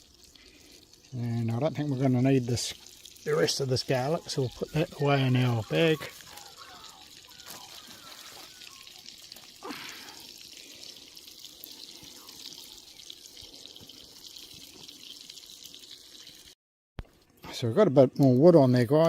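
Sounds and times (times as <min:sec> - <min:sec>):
fire crackles: 0:00.0 - 0:16.6
onions sizzling in pan: 0:00.0 - 0:16.6.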